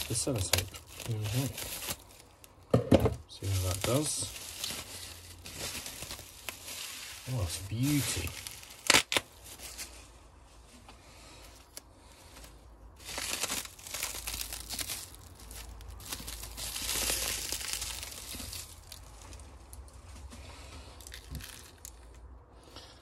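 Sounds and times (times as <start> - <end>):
plastic wrapping crinkling: 0.0 - 10.8, 11.4 - 22.3.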